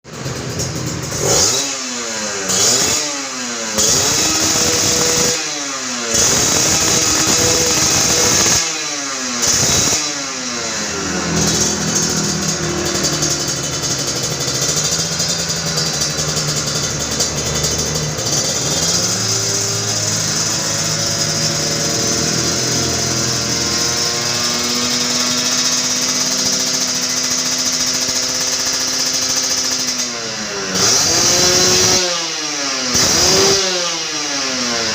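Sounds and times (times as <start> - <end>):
two-stroke motorcycle engine revving: 0.1 - 34.9.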